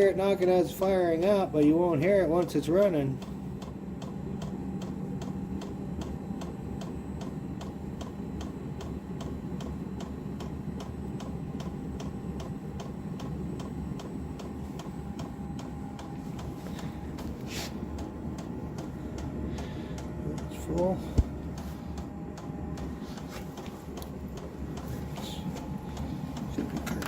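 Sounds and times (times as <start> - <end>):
heater low hum: 0.0 - 27.0.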